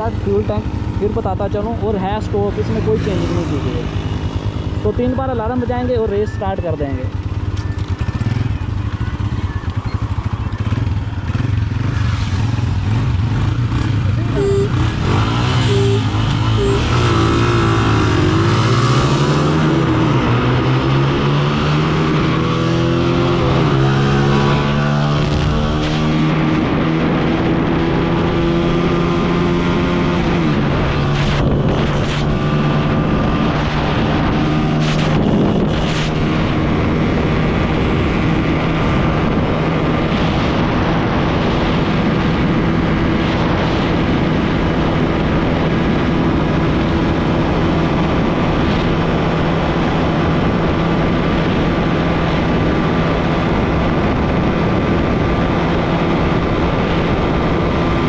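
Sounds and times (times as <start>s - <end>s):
motorcycle engines at full throttle: 0.0s - 58.0s
wind noise on microphone: 10.9s - 58.0s.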